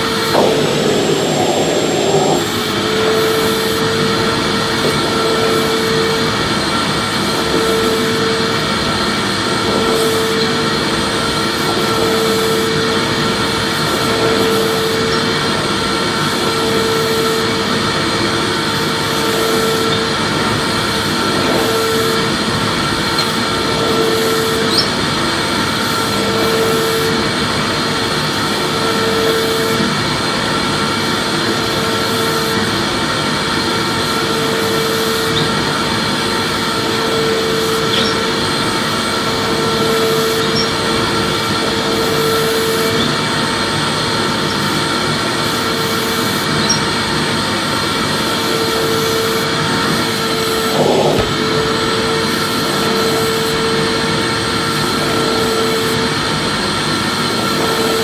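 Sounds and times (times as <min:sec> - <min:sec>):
vacuum cleaner motor running: 0:00.0 - 0:58.0.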